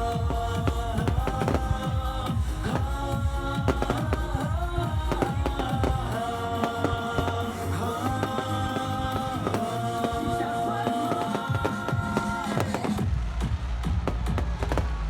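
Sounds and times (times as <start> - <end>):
steady beat: 0.0 - 15.0.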